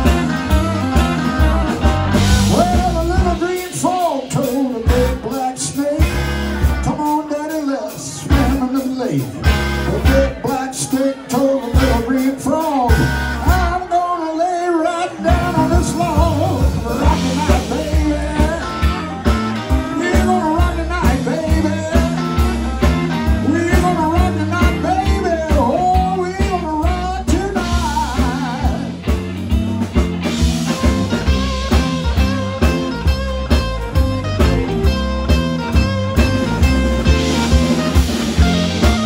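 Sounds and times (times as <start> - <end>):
electric bass line: 0.0 - 7.3, 8.2 - 10.6, 11.7 - 14.0, 15.2 - 39.0
drums: 0.0 - 39.0
electric guitar lead: 0.0 - 39.0.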